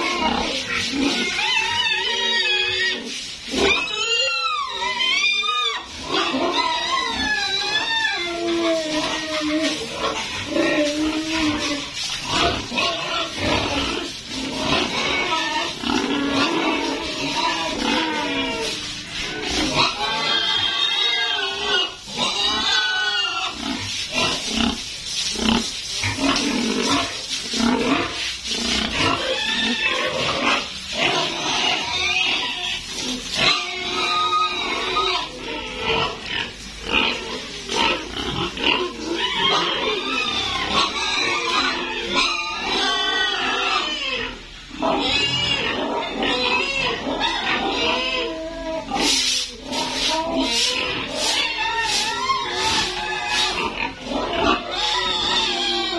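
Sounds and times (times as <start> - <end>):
pigs grunting: 0.0 - 55.9
pigs squealing: 0.0 - 55.9.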